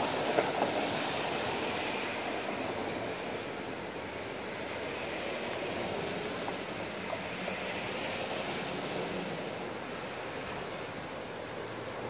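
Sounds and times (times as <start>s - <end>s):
distant train rushing noise: 0.0s - 12.0s.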